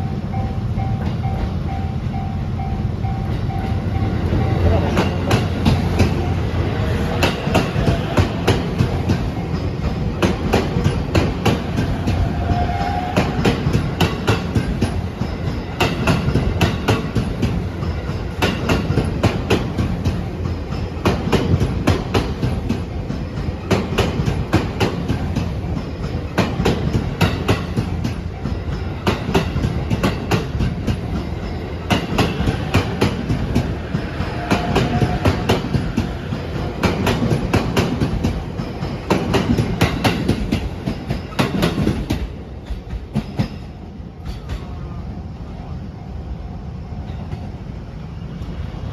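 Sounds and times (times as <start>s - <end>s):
train wheels clacking over rail joints: 3.3s - 44.8s.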